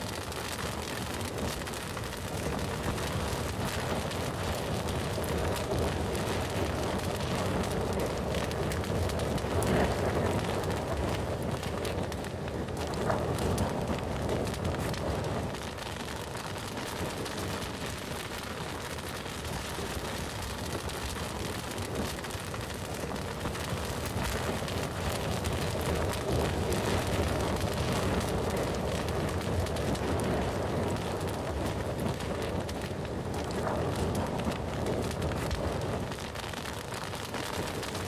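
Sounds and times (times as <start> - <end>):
bonfire flames rushing: 0.0 - 38.0
fire crackling and popping: 0.0 - 38.0.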